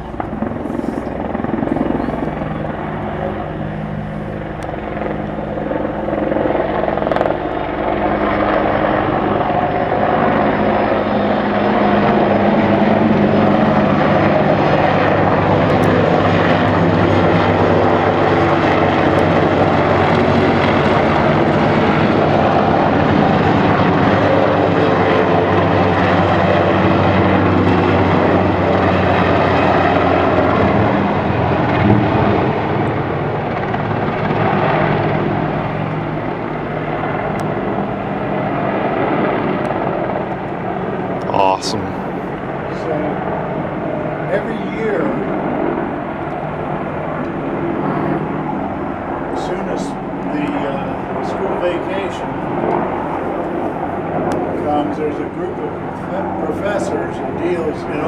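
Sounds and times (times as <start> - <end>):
helicopter rotor chop and turbine: 0.0 - 58.0.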